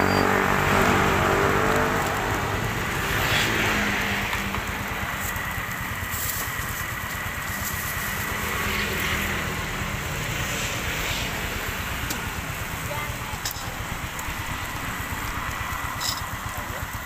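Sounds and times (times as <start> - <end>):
low street rumble: 0.0 - 17.0
vehicle engine running: 0.0 - 17.0.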